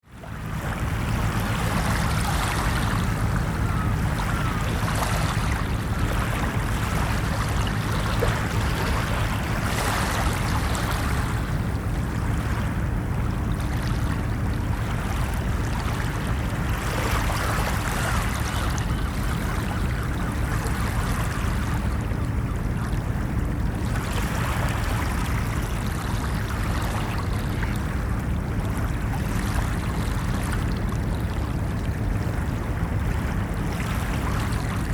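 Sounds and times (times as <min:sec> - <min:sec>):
ocean surf on a beach: 0:00.2 - 0:34.9.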